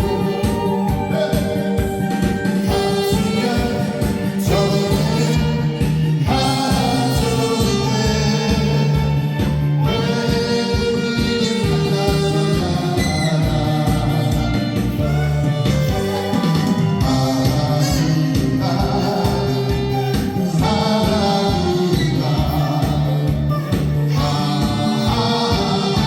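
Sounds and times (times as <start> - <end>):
backing track with steady beat: 0.0 - 26.0
saxophone slow melody: 0.0 - 26.0.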